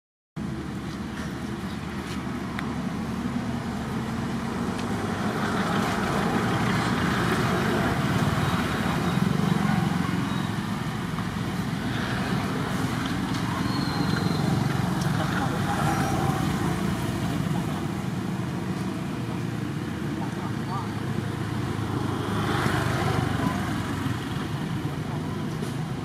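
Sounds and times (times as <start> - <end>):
low rumble of motor traffic: 0.4 - 26.0.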